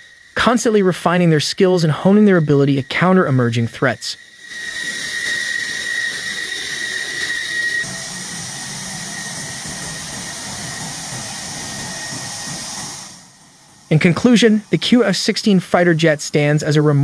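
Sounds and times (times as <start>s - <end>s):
low engine rumble: 0.0s - 16.0s
jet engine idling whine: 0.0s - 17.0s.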